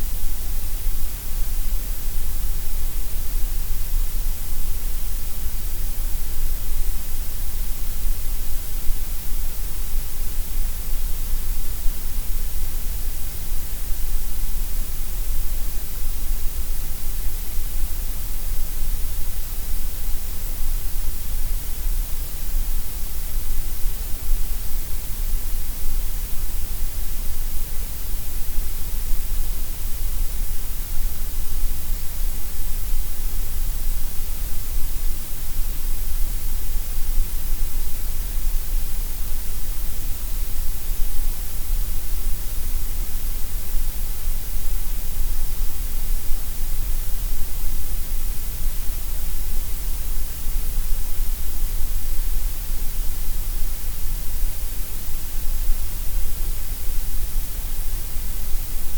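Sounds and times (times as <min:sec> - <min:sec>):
steady gray noise hiss: 0:00.0 - 0:58.9.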